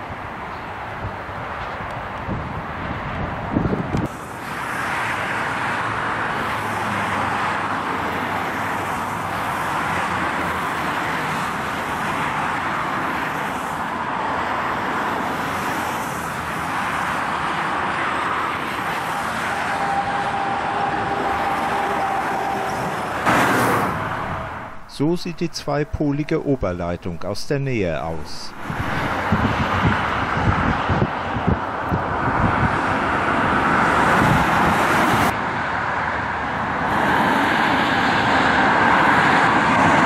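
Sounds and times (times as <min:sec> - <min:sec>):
tyre noise of passing vehicles: 0:00.0 - 0:40.0.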